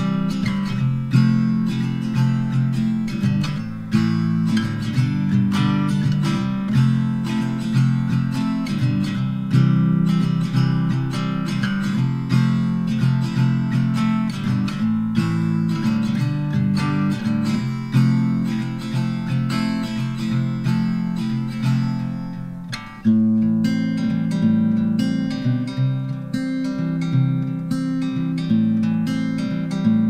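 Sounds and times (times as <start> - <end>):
acoustic guitar strumming and plucking: 0.0 - 30.0.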